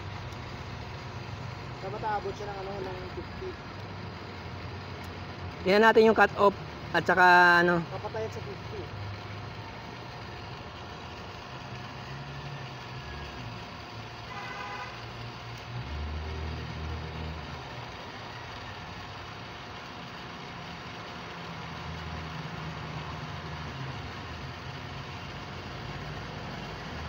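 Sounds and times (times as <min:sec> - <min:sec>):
electric water pump running: 0:00.0 - 0:27.0.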